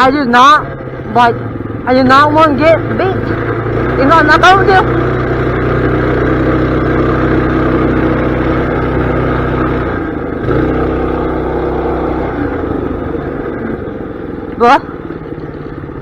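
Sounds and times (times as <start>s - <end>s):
mini bike engine revving: 0.0s - 16.0s.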